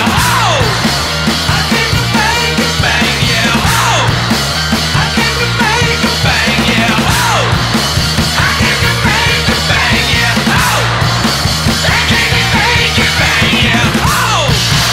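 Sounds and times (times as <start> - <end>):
loud rock music: 0.0 - 14.9.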